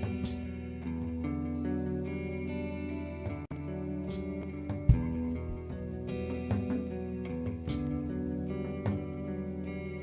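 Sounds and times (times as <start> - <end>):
bass guitar: 0.0 - 10.0
electric guitars: 0.0 - 10.0.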